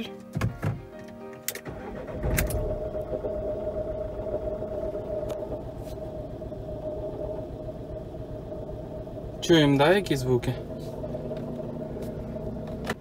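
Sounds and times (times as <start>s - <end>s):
diesel engine starting and idling: 1.5s - 13.0s
engine whine: 1.6s - 13.0s.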